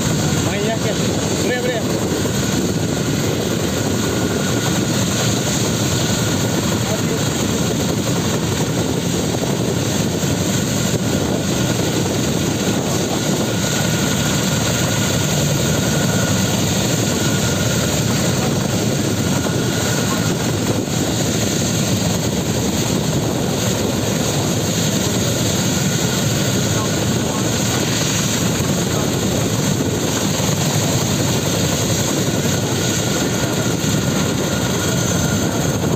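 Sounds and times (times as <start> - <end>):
helicopter rotors turning: 0.0 - 35.9
high turbine whine: 0.0 - 35.9.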